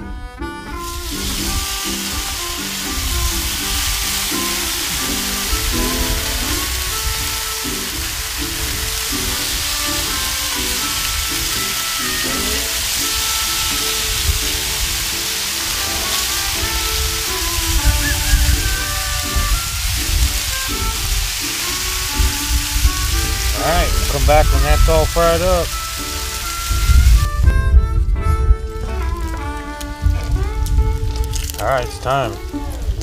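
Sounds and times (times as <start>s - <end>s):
background music: 0.0s - 33.0s
bacon sizzling on a griddle: 0.8s - 27.6s, 28.8s - 33.0s.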